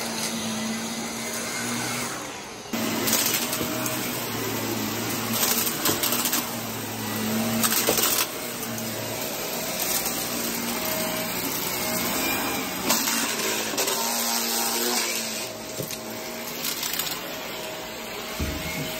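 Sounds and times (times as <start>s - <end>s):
vacuum cleaner running on carpet: 0.0s - 18.9s.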